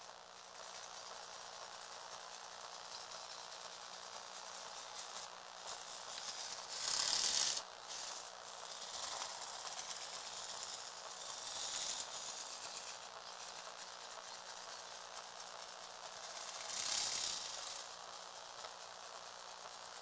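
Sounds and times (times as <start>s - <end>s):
toy car motor and gears whirring: 0.0s - 20.0s.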